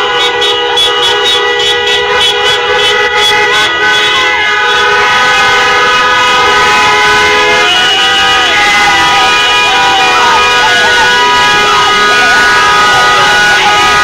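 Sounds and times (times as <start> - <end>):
car horns blaring: 0.0 - 14.0.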